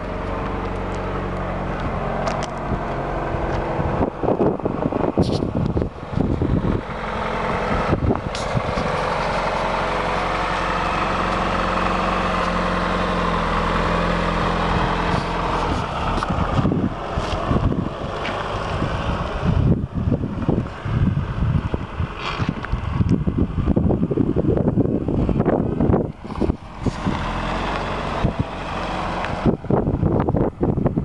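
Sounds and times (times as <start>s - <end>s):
car engine idling: 0.0s - 31.0s
wind buffeting microphone: 0.0s - 31.0s.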